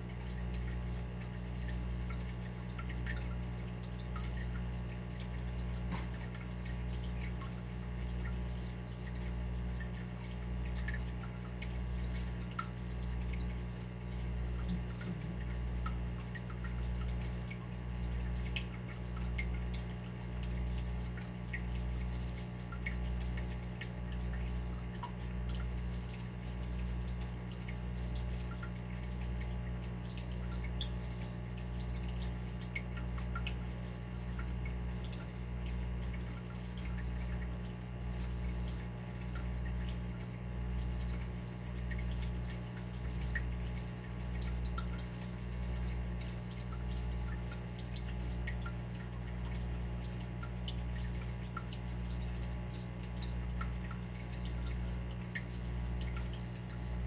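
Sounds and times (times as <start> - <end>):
water dripping: 0.1 - 57.0.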